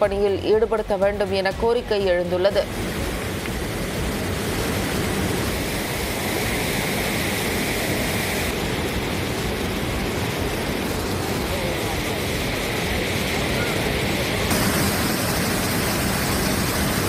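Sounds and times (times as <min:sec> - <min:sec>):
flooded river rushing: 0:02.7 - 0:17.0.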